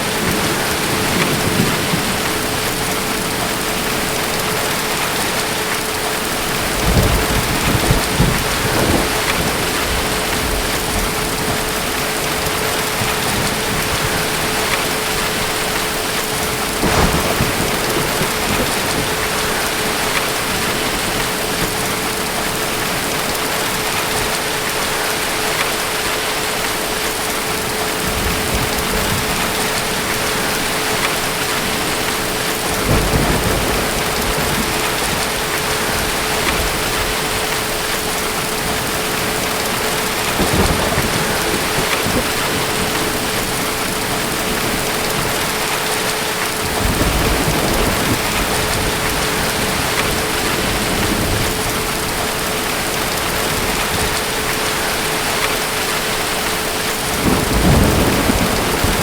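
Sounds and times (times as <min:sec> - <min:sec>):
distant thunder rumbling: 0:00.0 - 0:25.7, 0:27.5 - 0:59.0
heavy rainfall: 0:00.0 - 0:59.0.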